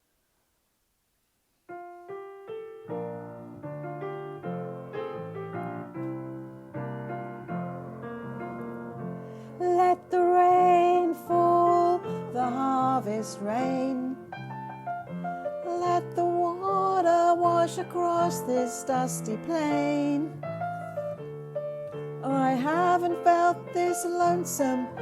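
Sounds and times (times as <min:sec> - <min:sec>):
piano notes and chords: 0:01.7 - 0:25.0.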